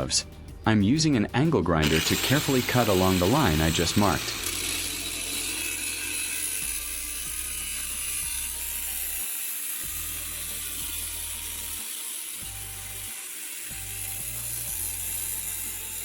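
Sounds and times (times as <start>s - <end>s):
background music: 0.0s - 16.0s
angle grinder cutting metal: 1.8s - 16.0s.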